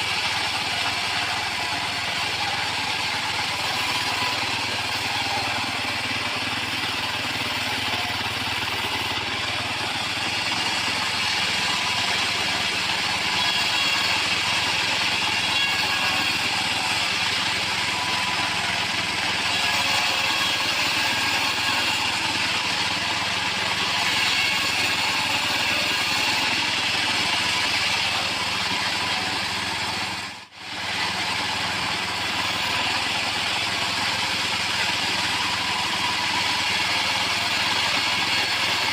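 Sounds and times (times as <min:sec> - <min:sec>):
bandsaw mill cutting timber: 0:00.0 - 0:38.9.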